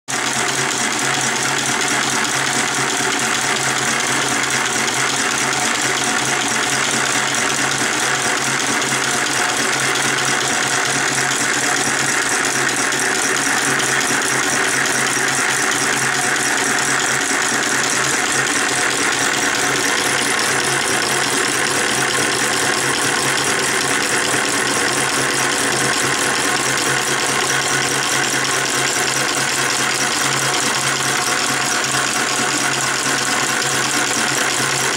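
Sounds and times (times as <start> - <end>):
small engine clattering: 0.1 - 34.9.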